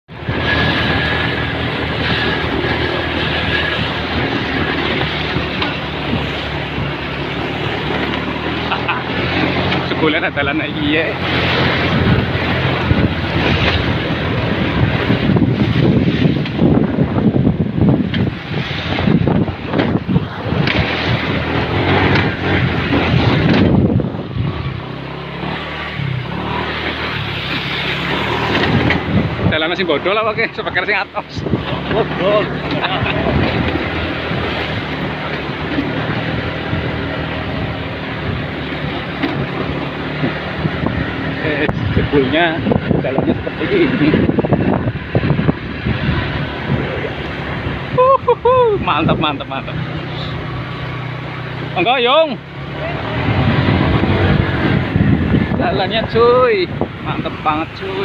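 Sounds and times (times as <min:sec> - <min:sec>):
motorcycle engine running: 0:00.1 - 0:58.0
wind buffeting microphone: 0:00.1 - 0:58.0.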